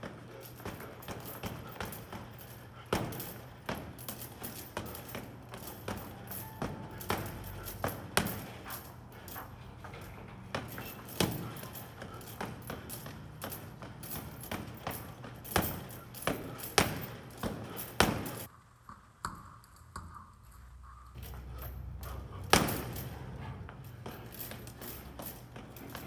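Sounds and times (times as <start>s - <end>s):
gloves punching heavy bag: 0.0s - 18.5s, 21.2s - 26.0s
chain jingling: 0.3s - 18.5s, 21.2s - 26.0s.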